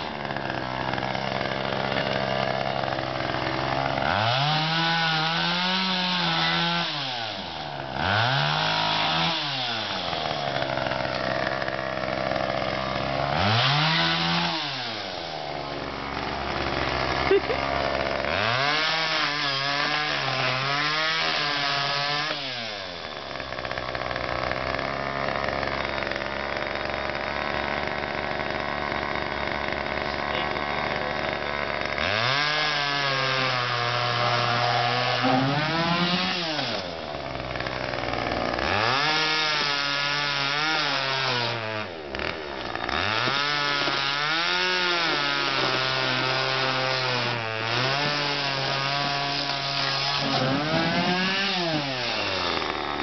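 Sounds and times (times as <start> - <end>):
chainsaw cutting: 0.0 - 53.0.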